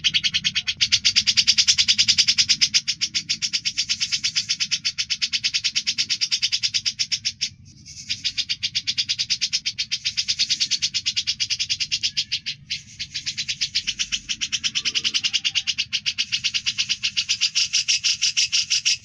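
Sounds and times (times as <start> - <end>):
bird singing buzzy chattering notes: 0.0 - 19.0.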